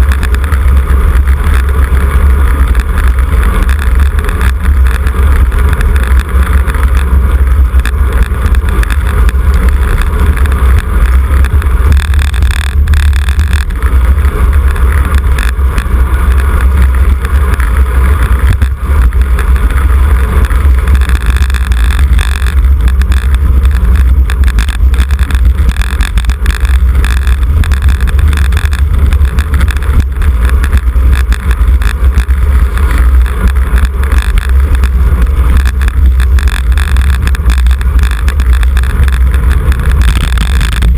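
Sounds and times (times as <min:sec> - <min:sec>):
moving bicycle noise: 0:00.0 - 0:40.9
wind rumble on microphone: 0:00.0 - 0:40.9.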